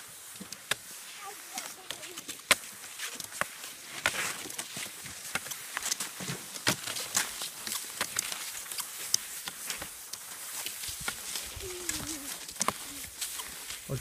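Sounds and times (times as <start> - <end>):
skis scraping over snow: 0.0 - 14.0
ski poles clicking: 0.1 - 14.0.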